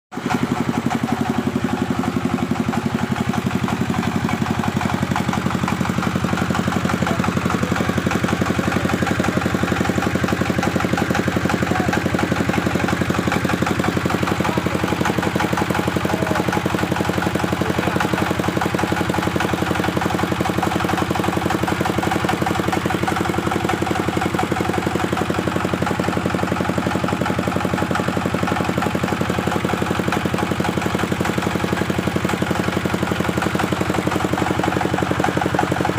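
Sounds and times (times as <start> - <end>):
bandsaw running: 0.4 - 35.9.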